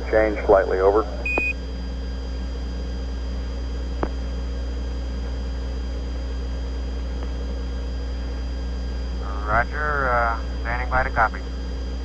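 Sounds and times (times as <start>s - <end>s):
radio channel hum and hiss: 0.0s - 12.0s.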